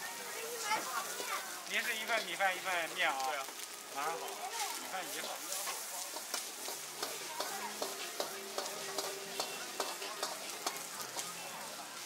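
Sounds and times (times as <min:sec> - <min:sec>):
noodles sizzling on hot plate: 0:00.0 - 0:12.0.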